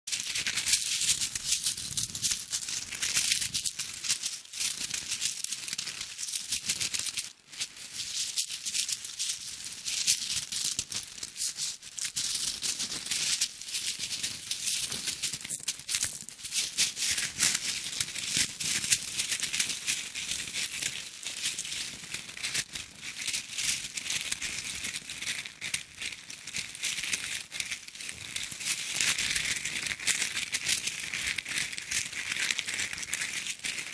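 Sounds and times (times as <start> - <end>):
dry crackles and scratches: 0.1 - 33.9.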